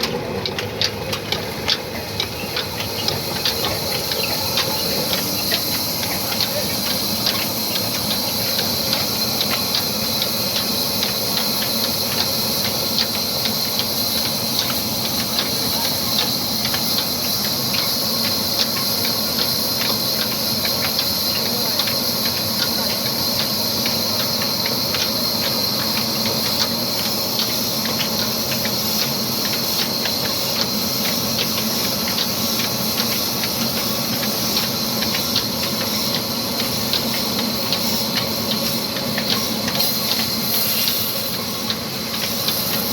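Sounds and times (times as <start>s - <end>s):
diesel engine clattering: 0.0s - 42.9s.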